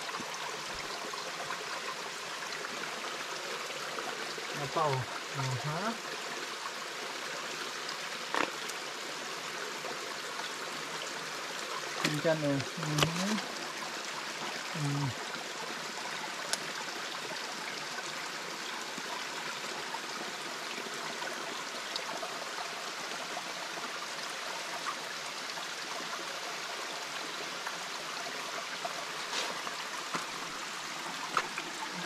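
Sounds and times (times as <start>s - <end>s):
stream running over stones: 0.0s - 32.0s.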